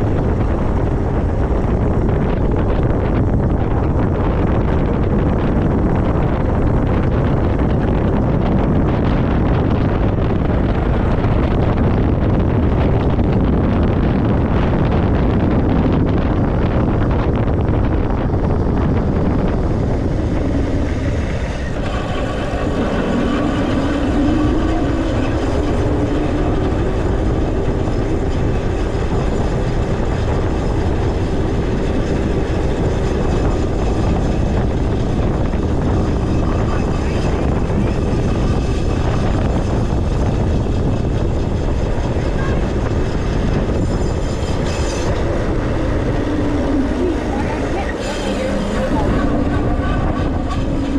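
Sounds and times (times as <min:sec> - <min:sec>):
e-bike rolling and rattling: 0:00.0 - 0:50.9
wind on microphone: 0:00.0 - 0:50.9
whine rising in pitch: 0:08.6 - 0:50.9.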